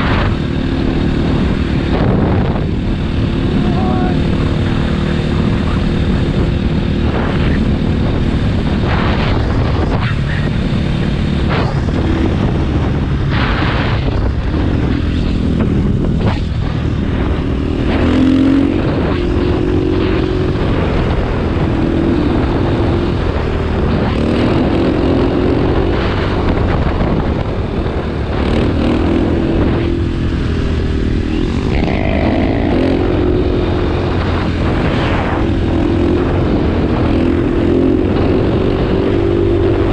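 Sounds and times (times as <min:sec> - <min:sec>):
dirt bike engine revving: 0:00.0 - 0:27.2, 0:27.8 - 0:39.9
wind noise on microphone: 0:00.0 - 0:39.9.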